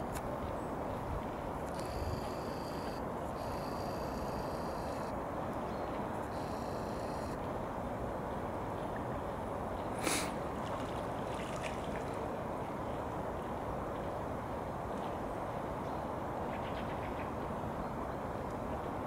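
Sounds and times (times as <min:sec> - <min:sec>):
shallow stream running: 0:00.0 - 0:19.0.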